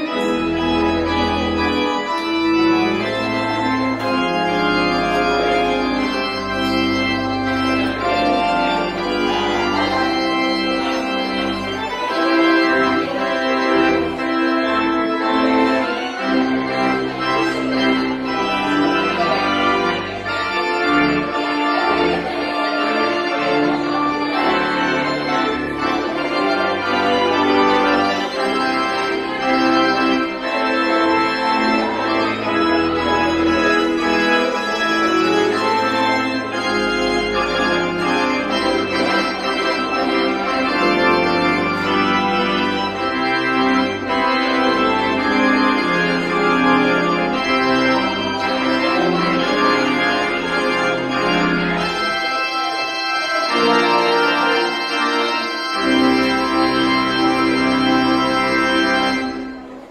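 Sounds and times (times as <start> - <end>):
pipe organ chords: 0.0 - 59.9.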